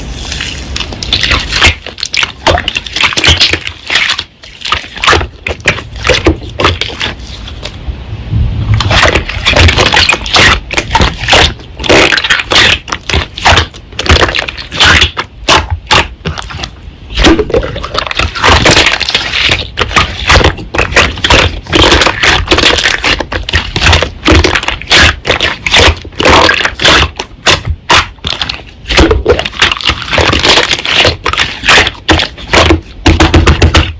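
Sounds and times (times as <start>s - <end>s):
slime crackling and popping: 0.4s - 7.2s, 8.8s - 33.9s.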